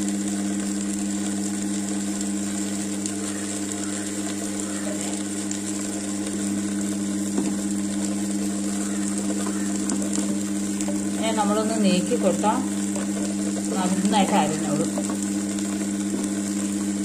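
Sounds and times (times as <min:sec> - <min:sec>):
wet grinder motor hum: 0:00.0 - 0:17.0.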